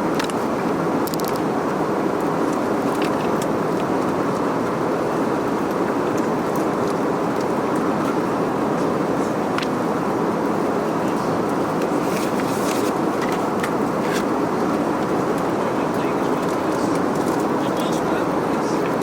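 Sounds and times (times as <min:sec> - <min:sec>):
airplane cabin airflow and engine: 0:00.0 - 0:19.0.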